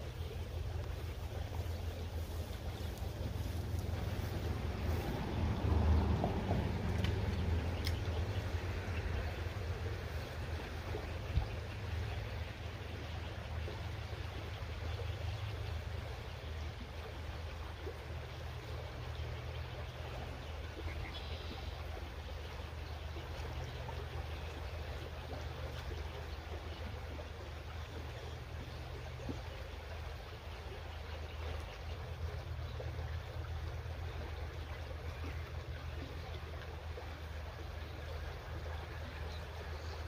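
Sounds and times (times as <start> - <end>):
creek trickling over rocks: 0.0 - 40.0.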